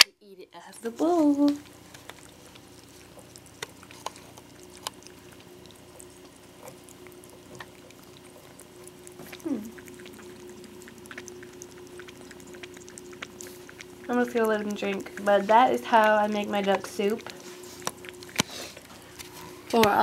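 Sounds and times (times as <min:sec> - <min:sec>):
faint steady hum: 0:00.0 - 0:20.0
ferret lapping from metal bowl: 0:00.9 - 0:20.0.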